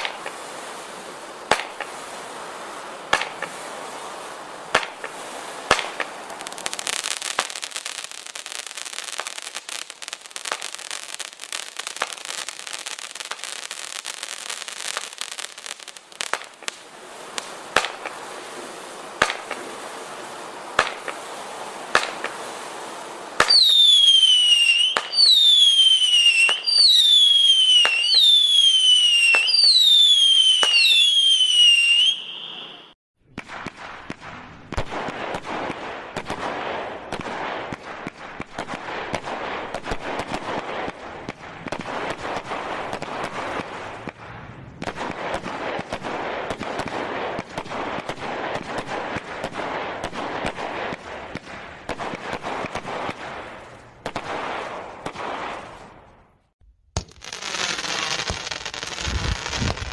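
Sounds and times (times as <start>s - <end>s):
whistling firework shots: 0.0s - 2.2s, 3.1s - 4.0s, 4.7s - 59.9s
fireworks bangs: 0.0s - 59.9s
fireworks crackling: 0.0s - 59.9s.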